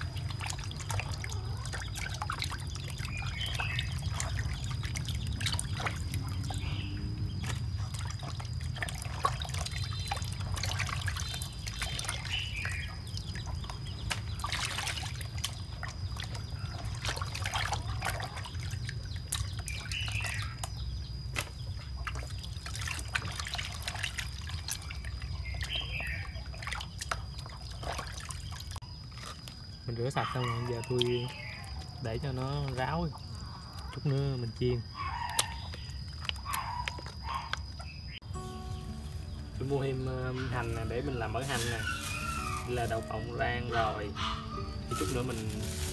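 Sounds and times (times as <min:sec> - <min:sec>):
water trickling and splashing: 0:00.0 - 0:45.9.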